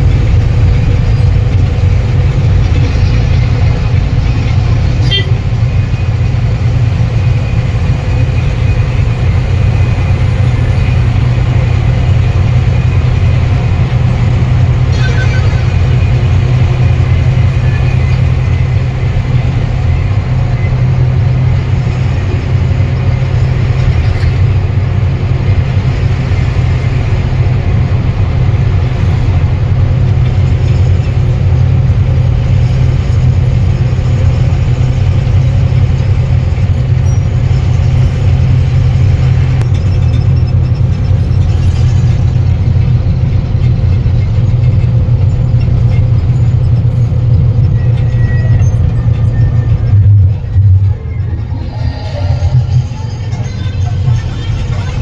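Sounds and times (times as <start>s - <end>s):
road noise: 0.0s - 55.0s
truck engine droning: 0.0s - 55.0s.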